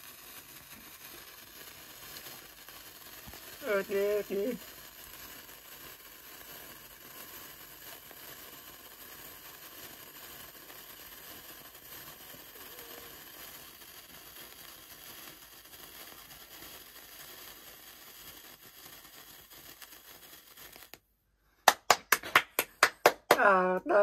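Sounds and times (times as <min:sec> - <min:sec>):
sparkler fizzing and crackling: 0:00.0 - 0:21.0, 0:21.7 - 0:24.0.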